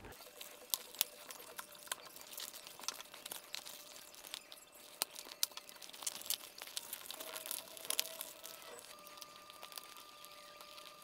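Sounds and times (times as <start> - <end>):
fabric rustling and crinkling: 0.0 - 11.0.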